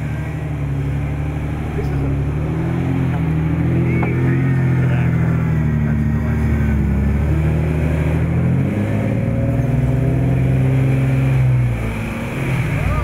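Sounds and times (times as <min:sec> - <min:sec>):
vehicle engine running hard: 0:00.0 - 0:13.0.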